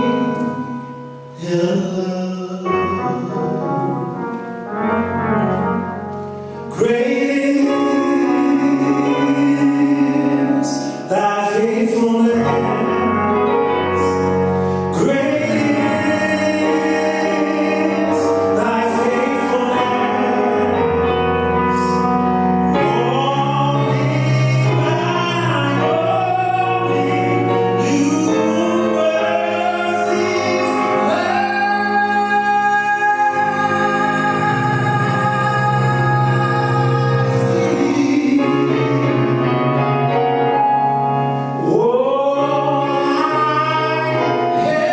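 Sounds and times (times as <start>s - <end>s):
gospel choir singing: 6.7s - 40.4s, 41.4s - 44.9s.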